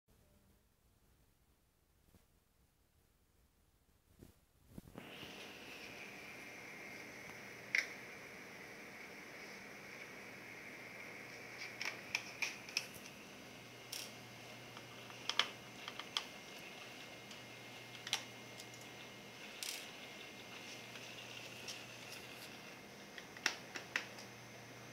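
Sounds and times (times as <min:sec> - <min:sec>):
faint steady hiss: 0:00.1 - 0:24.9.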